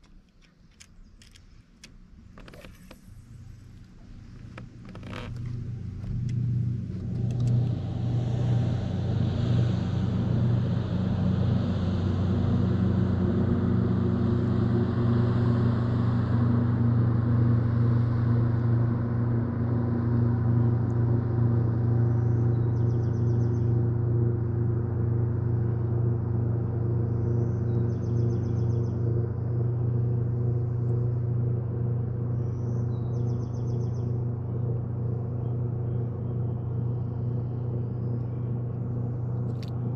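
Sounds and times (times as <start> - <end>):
boat outboard motor running: 0.0 - 39.9.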